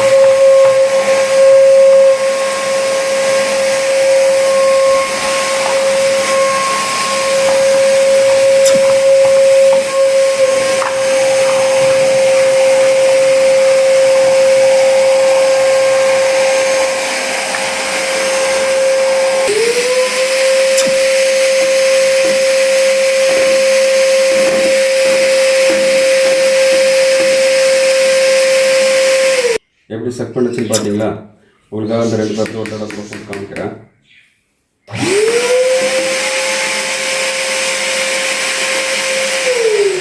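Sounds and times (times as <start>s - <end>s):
vacuum cleaner running: 0.0s - 29.6s, 34.9s - 40.0s.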